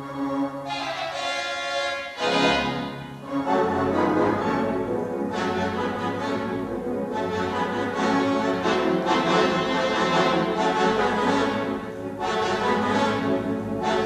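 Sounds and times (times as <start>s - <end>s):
orchestral cartoon music with brass: 0.0s - 14.0s.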